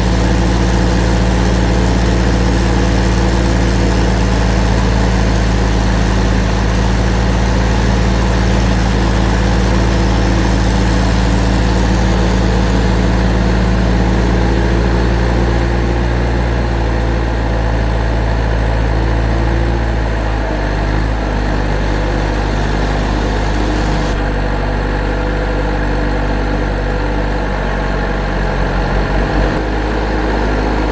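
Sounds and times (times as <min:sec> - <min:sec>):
heavy vehicle engine idling: 0:00.0 - 0:30.9.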